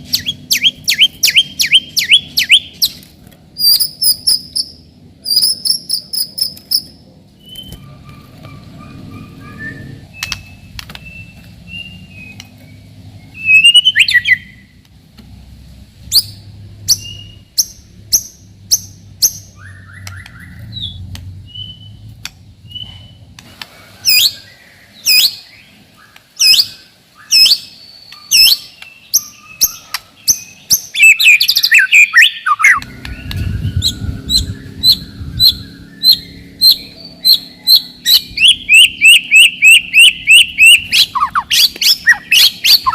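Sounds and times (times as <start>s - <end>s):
bird singing whistled notes: 0.1s - 3.0s, 3.6s - 8.3s, 9.2s - 14.7s, 16.1s - 23.3s, 24.1s - 42.9s.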